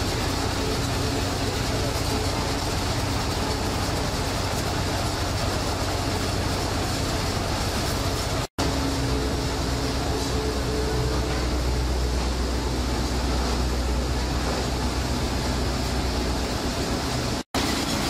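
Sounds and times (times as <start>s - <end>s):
factory machinery and conveyors: 0.0s - 18.0s.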